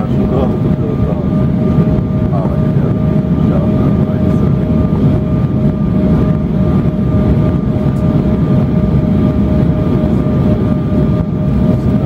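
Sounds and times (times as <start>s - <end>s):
jet engines and airflow rush: 0.0s - 12.0s
steady whine: 0.0s - 12.0s.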